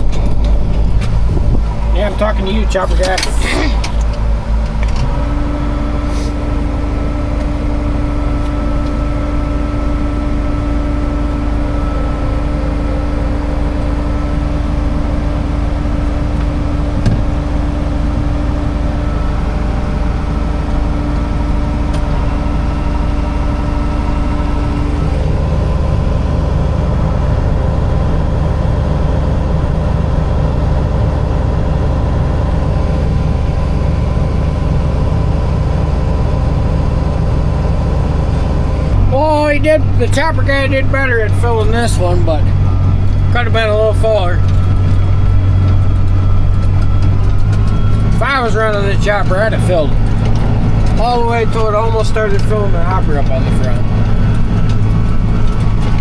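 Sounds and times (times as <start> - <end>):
steady hum: 0.0 - 56.0
vehicle engine running: 0.0 - 56.0.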